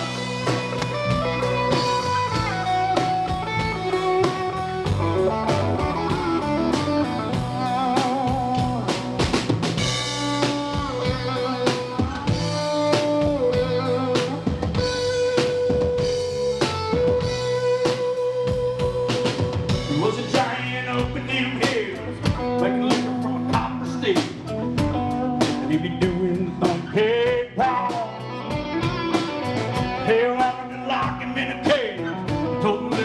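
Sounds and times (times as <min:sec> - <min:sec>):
bass guitar: 0:00.0 - 0:33.0
drum kit: 0:00.0 - 0:33.0
guitar lead with bending notes: 0:00.0 - 0:33.0.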